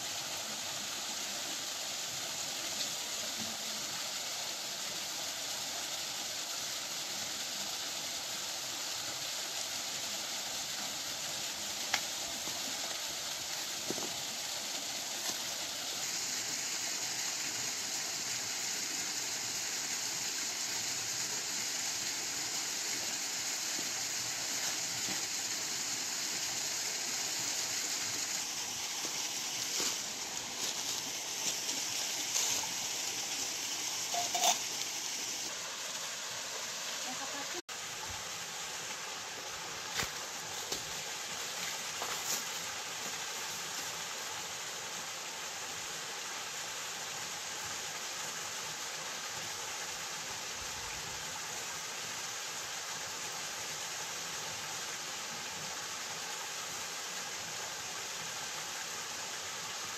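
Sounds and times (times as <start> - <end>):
water rushing over rocks: 7.3 - 59.9.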